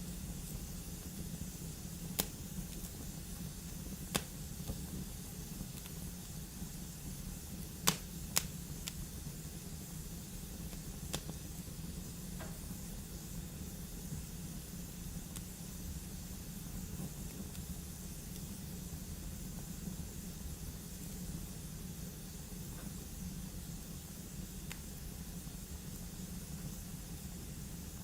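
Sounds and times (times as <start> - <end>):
fire burning: 0.0 - 28.0
fire crackling pops: 0.0 - 28.0.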